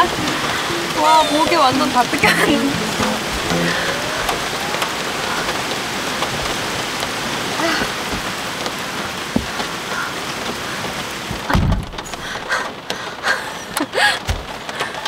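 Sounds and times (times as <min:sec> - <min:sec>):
heavy rain on a car: 0:00.0 - 0:03.0, 0:03.6 - 0:15.0.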